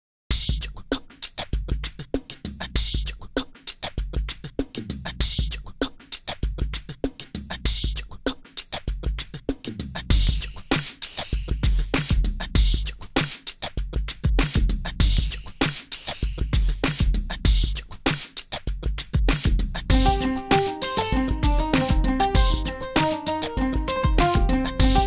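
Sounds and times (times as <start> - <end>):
music with drum beat and bass: 0.3 - 25.0.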